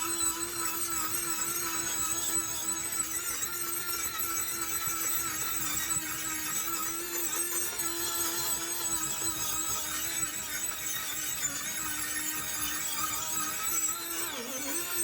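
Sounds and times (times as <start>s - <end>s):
small power tool motor whining: 0.0s - 15.0s.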